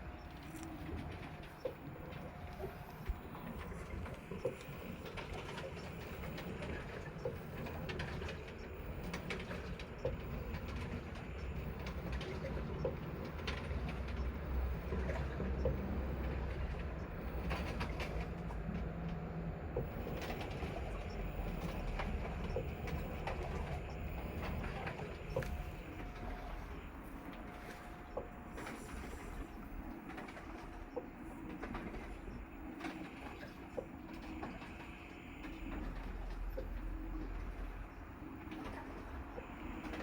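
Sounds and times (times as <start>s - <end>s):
washing machine motor hum: 0.0s - 40.0s.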